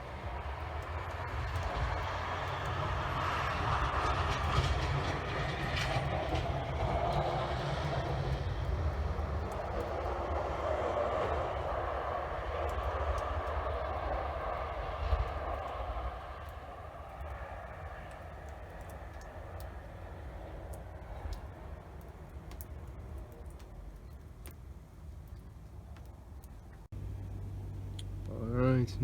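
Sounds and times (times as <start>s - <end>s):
distant vehicle passing: 0.0s - 29.0s.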